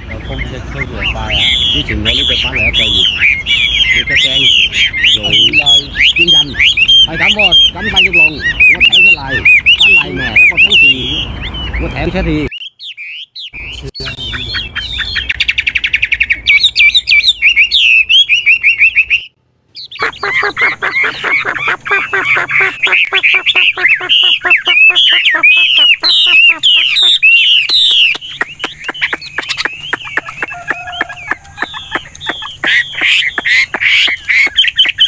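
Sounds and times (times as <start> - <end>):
bird singing whistled notes: 0.0 - 20.6, 22.0 - 35.0.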